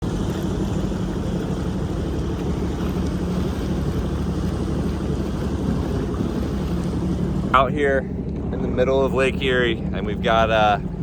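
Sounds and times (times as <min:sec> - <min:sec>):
boat engine humming: 0:00.0 - 0:11.0
wind on microphone: 0:00.0 - 0:11.0.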